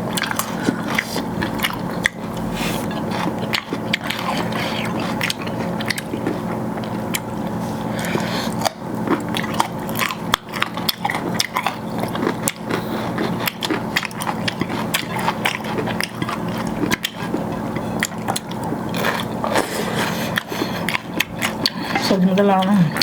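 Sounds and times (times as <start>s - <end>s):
person chewing crisp food: 0.0s - 23.0s.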